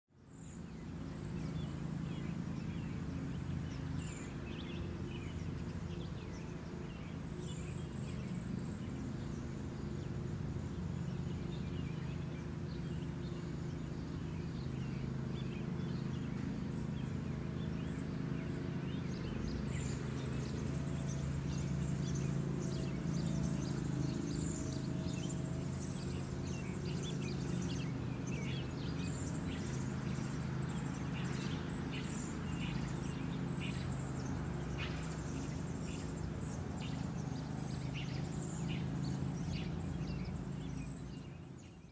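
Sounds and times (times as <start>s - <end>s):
small birds chirping: 0.1s - 41.9s.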